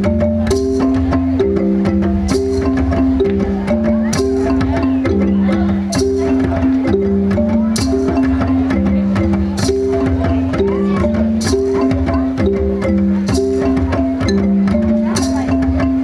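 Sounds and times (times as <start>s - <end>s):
upbeat music: 0.0s - 16.0s.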